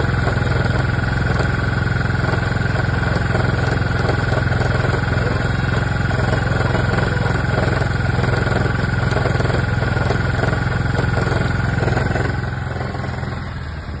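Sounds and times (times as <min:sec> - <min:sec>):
high transmission whine: 0:00.0 - 0:14.0
scooter engine running: 0:00.0 - 0:14.0.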